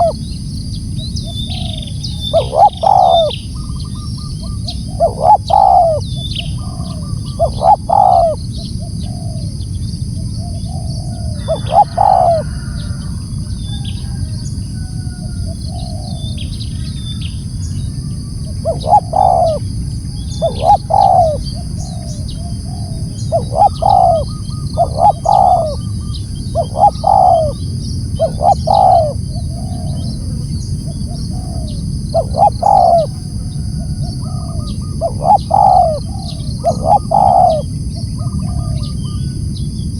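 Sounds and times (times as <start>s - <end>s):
dove cooing: 0.0s - 0.4s, 1.1s - 39.9s.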